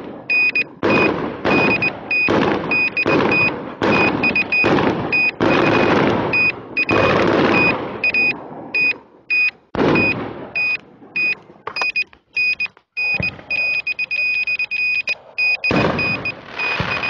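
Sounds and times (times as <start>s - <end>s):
fireworks bangs with crackle: 0.0s - 9.1s, 9.7s - 11.8s, 13.0s - 14.1s, 15.6s - 17.0s
high electronic beep: 0.3s - 17.0s.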